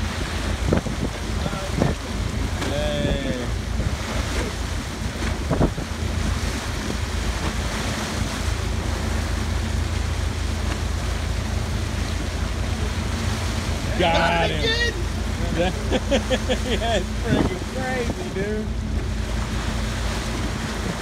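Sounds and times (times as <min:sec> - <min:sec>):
wind buffeting microphone: 0:00.0 - 0:14.0, 0:17.1 - 0:21.0
low engine hum: 0:00.0 - 0:21.0
water rushing along hull: 0:00.0 - 0:21.0.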